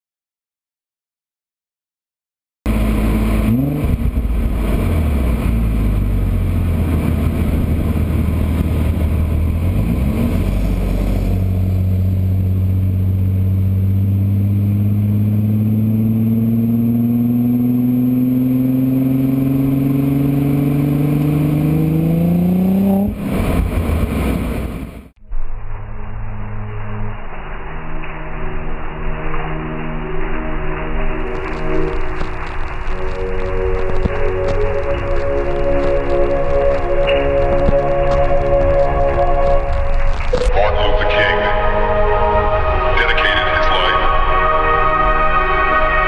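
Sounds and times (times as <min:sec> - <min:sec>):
car engine accelerating: 0:02.7 - 0:46.0.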